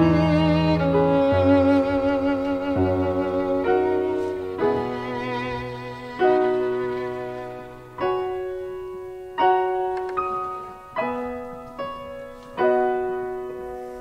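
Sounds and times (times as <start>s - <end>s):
piano playing a hymn: 0.0s - 14.0s.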